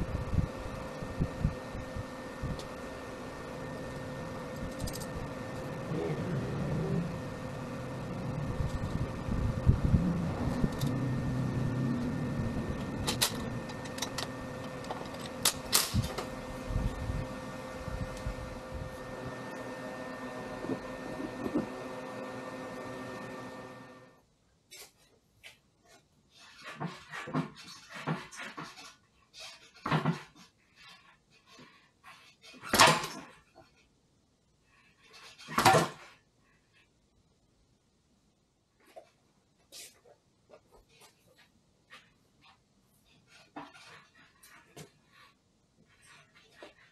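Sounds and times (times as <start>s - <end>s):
steady background hum: 0.0s - 46.9s.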